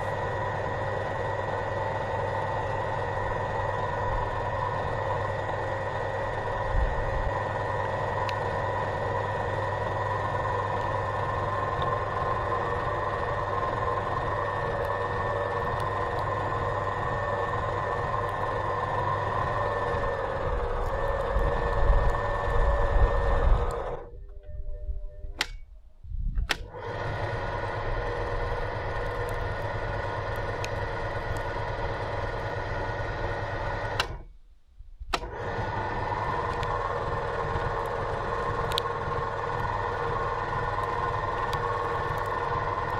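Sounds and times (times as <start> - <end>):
meat grinder whining: 0.0 - 24.1, 26.6 - 34.2, 35.2 - 42.9.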